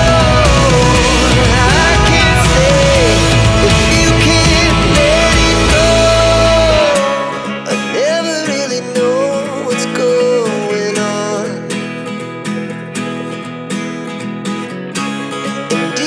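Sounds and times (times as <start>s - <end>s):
background music with guitar: 0.0s - 16.0s.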